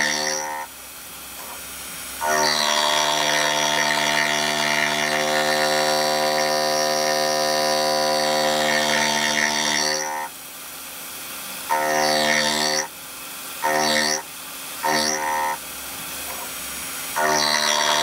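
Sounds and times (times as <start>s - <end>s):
endmill cutting steel buzz: 0.0s - 0.8s, 1.4s - 10.4s, 11.6s - 18.0s.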